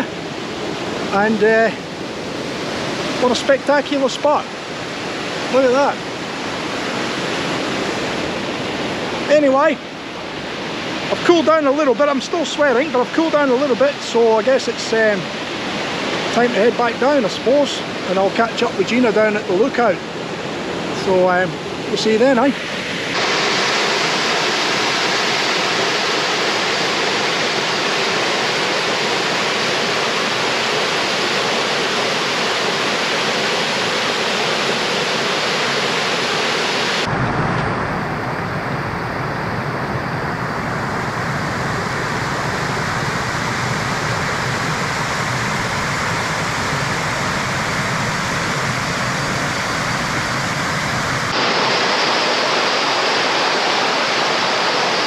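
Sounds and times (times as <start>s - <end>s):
water cascading over rocks: 0.0s - 37.8s, 40.9s - 55.0s.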